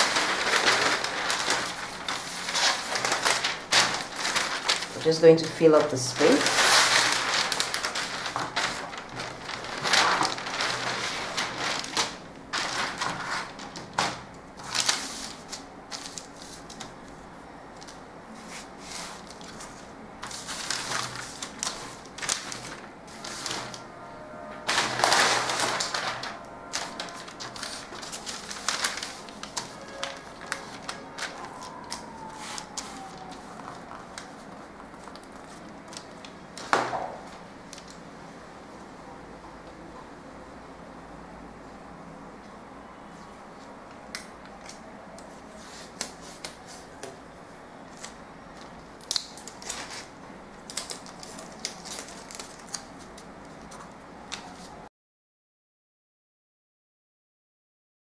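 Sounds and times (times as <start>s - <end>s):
paper rustling and crinkling: 0.0s - 23.9s, 24.5s - 38.1s, 43.2s - 47.2s, 47.8s - 54.9s.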